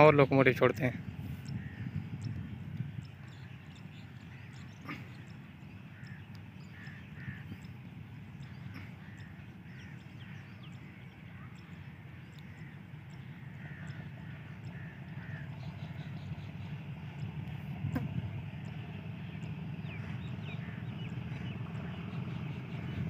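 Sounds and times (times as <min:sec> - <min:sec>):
birds calling harshly: 0:00.0 - 0:23.0
diesel locomotive rumble: 0:00.0 - 0:23.0.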